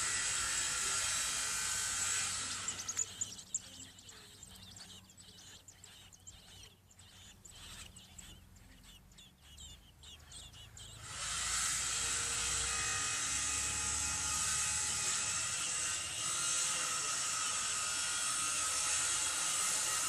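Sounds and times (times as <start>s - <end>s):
nestling birds peeping: 0.0s - 20.0s.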